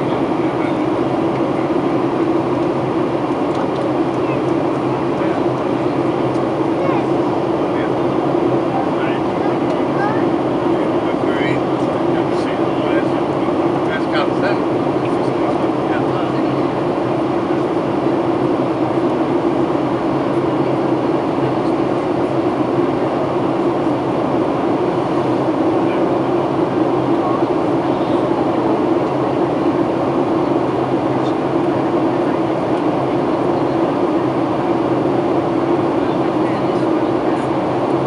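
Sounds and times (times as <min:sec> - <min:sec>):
jet engine drone: 0:00.0 - 0:38.0.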